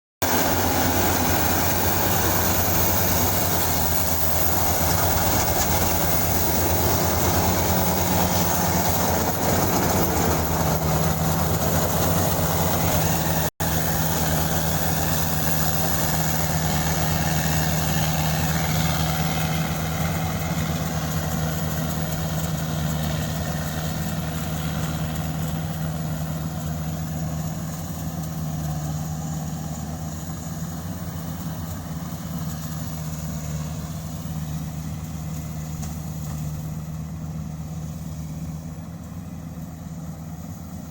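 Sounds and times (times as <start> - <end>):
harvester engine running: 0.2 - 40.9.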